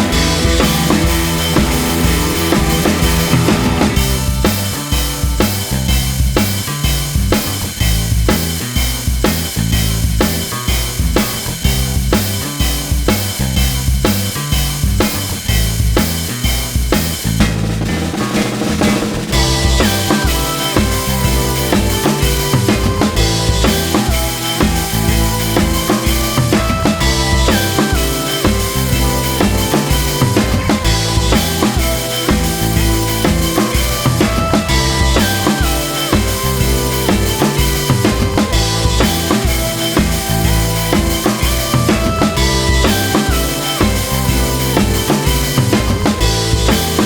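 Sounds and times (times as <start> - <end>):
music with drum beat: 0.0 - 47.0.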